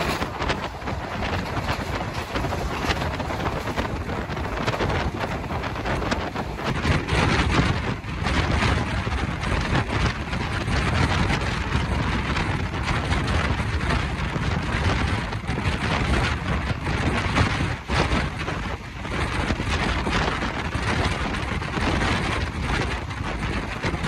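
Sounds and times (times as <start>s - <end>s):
train running rumble: 0.0s - 24.0s
wind buffeting microphone: 0.0s - 24.0s.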